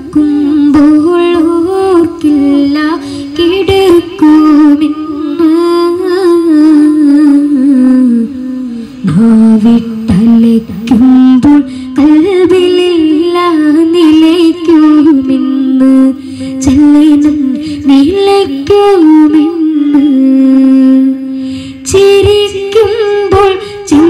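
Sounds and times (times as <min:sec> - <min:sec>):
boy singing into a microphone: 0:00.0 - 0:24.0.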